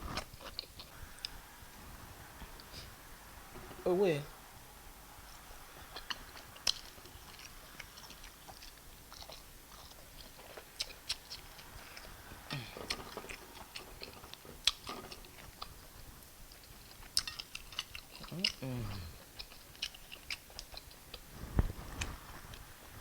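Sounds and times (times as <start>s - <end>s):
wet chewing: 0.0s - 22.7s.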